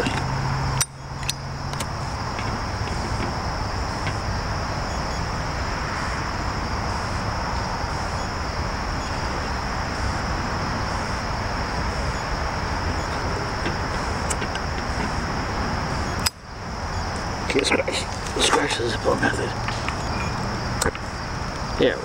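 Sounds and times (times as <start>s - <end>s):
crickets droning: 0.0s - 22.0s
outdoor background hiss: 0.0s - 22.0s.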